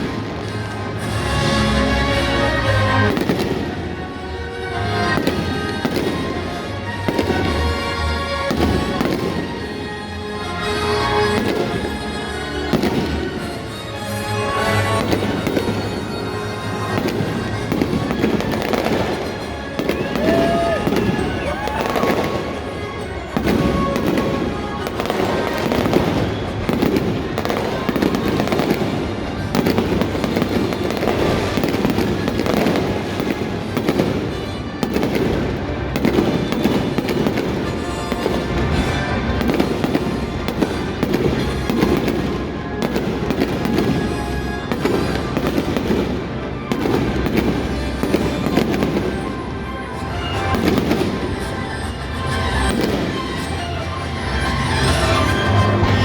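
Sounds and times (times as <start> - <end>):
fireworks bursting: 0.0 - 56.0
music over stadium loudspeakers: 0.0 - 56.0.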